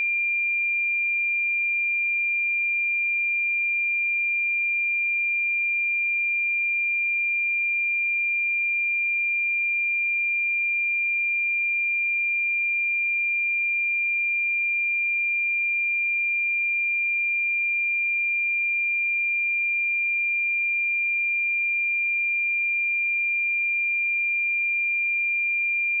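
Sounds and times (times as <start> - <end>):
sine wave test tone: 0.0 - 26.0.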